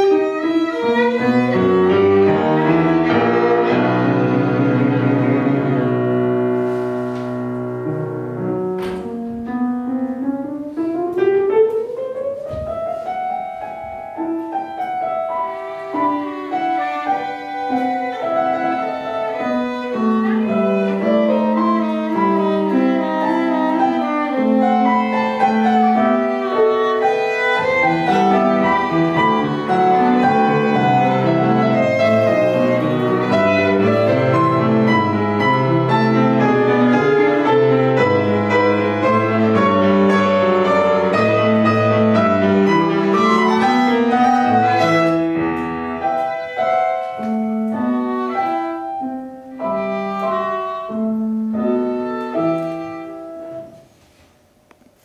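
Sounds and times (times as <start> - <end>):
violin and piano classical piece: 0.0 - 54.9.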